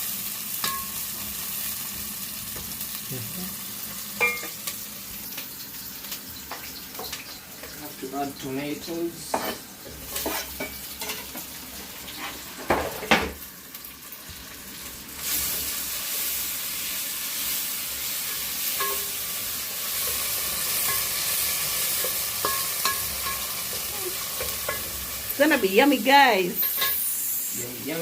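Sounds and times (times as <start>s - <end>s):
food frying in hot oil: 0.0s - 28.0s.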